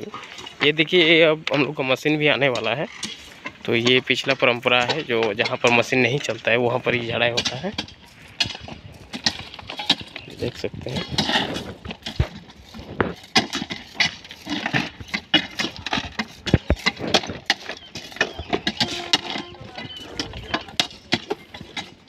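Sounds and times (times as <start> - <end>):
ballast stones clattering: 2.4 - 22.0
crowbar prying stones: 2.9 - 22.0.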